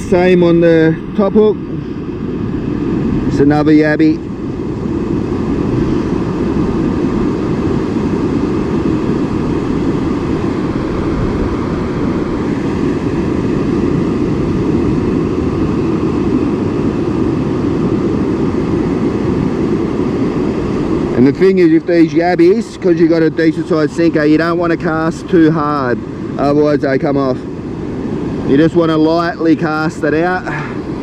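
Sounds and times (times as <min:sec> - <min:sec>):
surf and wind on beach: 0:00.0 - 0:31.0.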